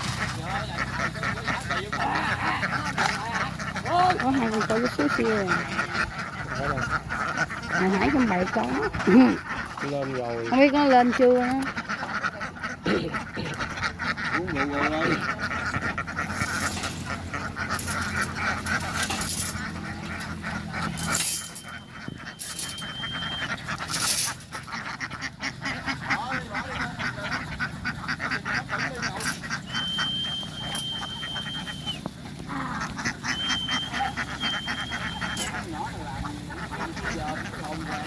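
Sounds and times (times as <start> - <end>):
flock of ducks quacking: 0.0 - 38.0.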